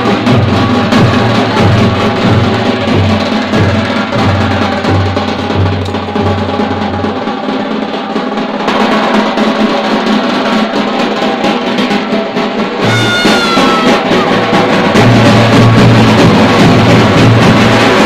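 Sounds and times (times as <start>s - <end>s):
drum roll on large drums: 0.0s - 18.0s
steady low drum beat: 0.0s - 18.0s.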